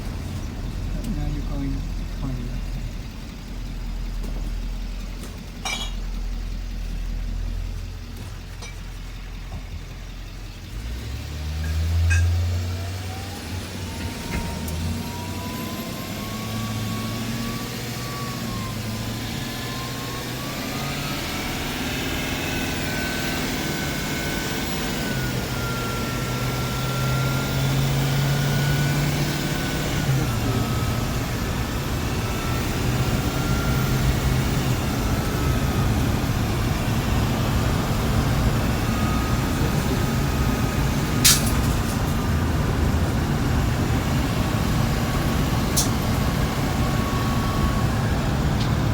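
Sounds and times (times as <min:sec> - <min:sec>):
bus engine pulling away: 0:00.0 - 0:48.9
rising engine whine: 0:00.0 - 0:48.9.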